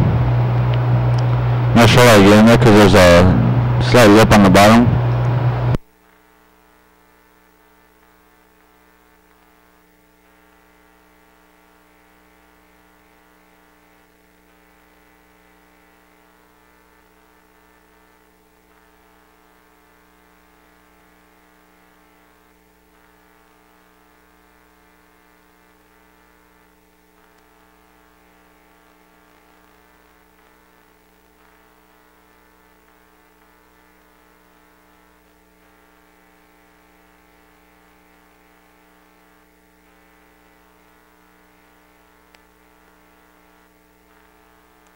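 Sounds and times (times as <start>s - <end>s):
faint electrical hum: 0.0s - 44.9s.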